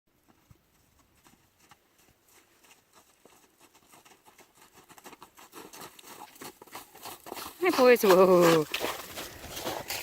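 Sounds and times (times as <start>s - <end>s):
faint footsteps: 0.2s - 10.0s.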